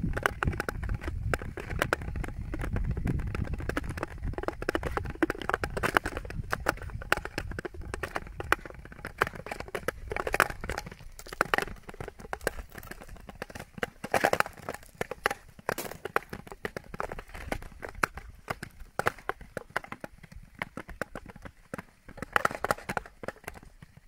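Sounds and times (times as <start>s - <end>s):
ice clicking and cracking: 0.0s - 24.0s
skate blades scraping ice: 0.0s - 24.0s.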